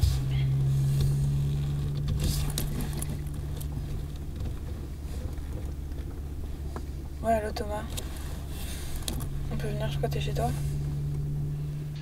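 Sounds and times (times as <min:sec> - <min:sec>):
car engine and road drone: 0:00.0 - 0:12.0
faint rustles: 0:00.0 - 0:12.0.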